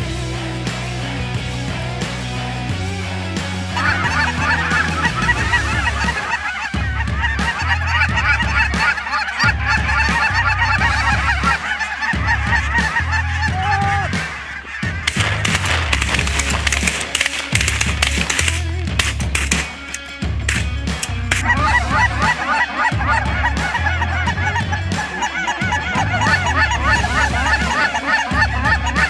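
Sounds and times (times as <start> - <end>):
background music: 0.0 - 29.0
geese honking: 3.7 - 29.0.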